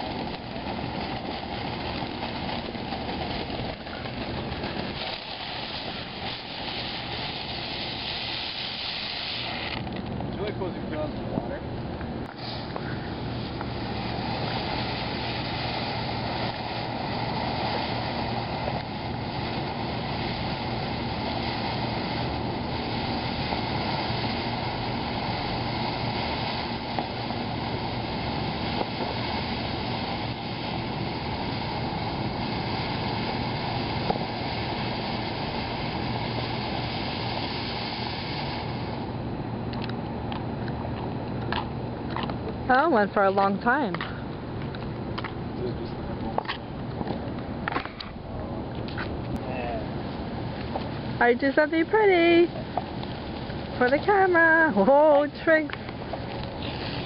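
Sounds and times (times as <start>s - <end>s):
sharp pops: 0.0s - 10.5s, 11.1s - 39.1s, 39.7s - 49.5s, 50.4s - 57.0s
ground firework hissing: 0.0s - 57.0s.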